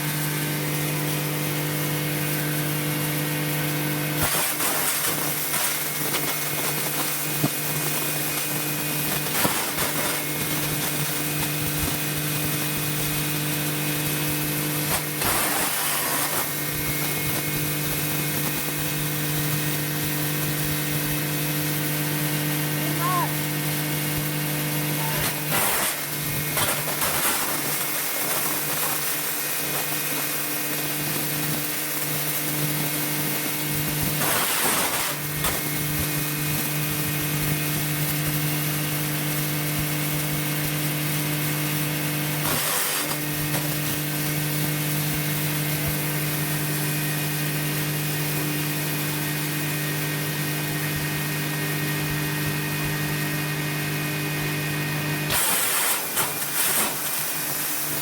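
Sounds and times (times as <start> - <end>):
sawdust machine humming: 0.0 - 58.0.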